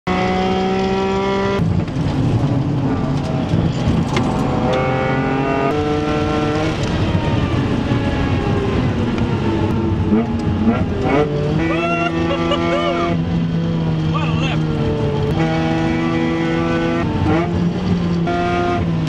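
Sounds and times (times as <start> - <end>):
car engine accelerating: 0.1 - 19.0
road and wind noise: 0.1 - 19.0.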